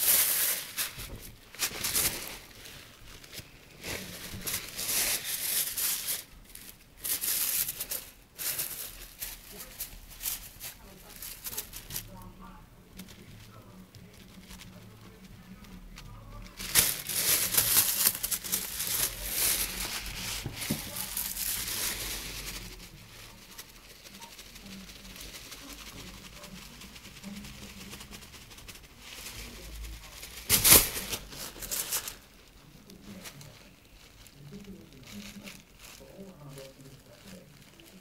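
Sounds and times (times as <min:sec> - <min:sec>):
plastic bag crinkling: 0:00.0 - 0:38.0.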